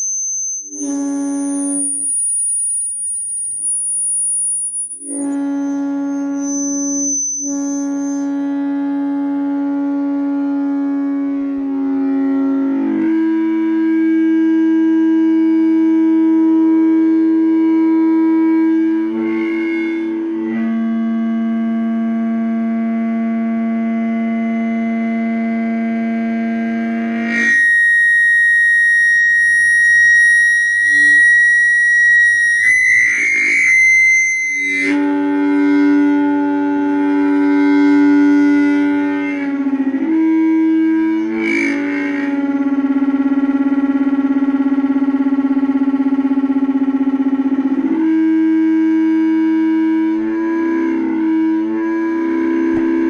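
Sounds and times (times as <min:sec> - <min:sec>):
audio feedback howling: 0:00.0 - 0:53.0.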